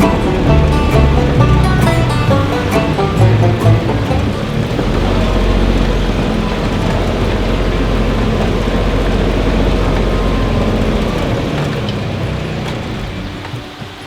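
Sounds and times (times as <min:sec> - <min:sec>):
road and wind noise: 0:00.0 - 0:14.0
vehicle engine rumbling: 0:00.0 - 0:14.0.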